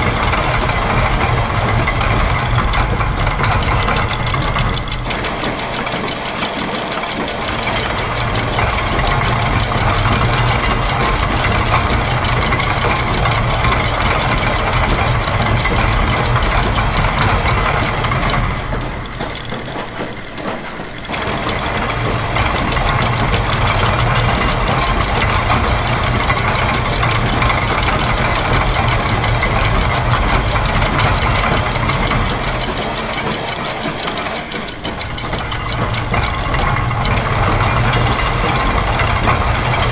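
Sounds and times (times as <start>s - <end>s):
factory machine clatter: 0.0s - 39.9s
low machine hum: 0.0s - 39.9s.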